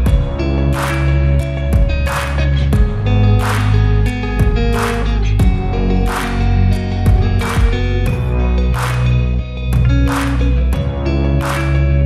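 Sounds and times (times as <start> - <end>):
instrumental music with held chords: 0.0 - 12.0.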